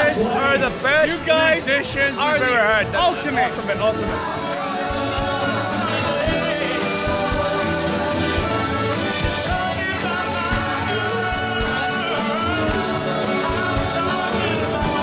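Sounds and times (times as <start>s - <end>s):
band playing with lead singer: 0.0s - 15.0s.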